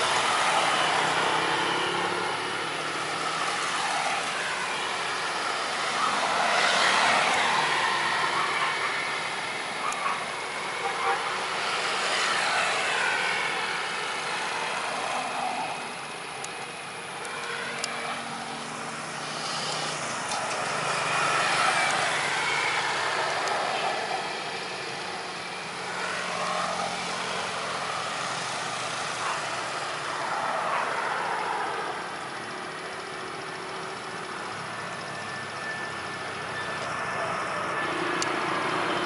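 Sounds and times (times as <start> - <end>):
road vehicles passing: 0.0 - 39.0.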